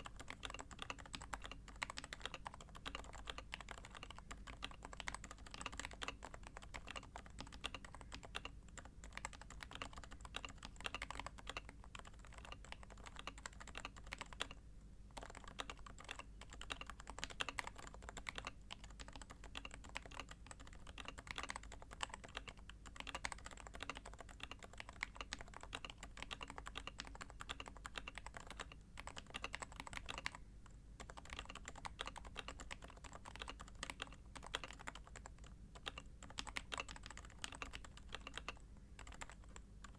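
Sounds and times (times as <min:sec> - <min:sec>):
muted keyboard typing: 0:00.0 - 0:30.4, 0:31.0 - 0:39.9.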